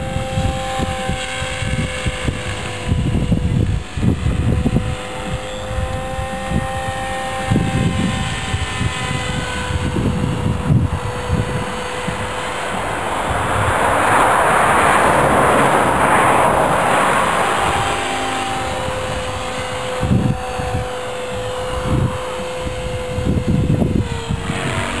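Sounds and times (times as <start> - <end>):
model helicopter motor whine: 0.0 - 25.0
rushing rotor sound: 0.0 - 25.0
wind buffeting microphone: 0.0 - 25.0.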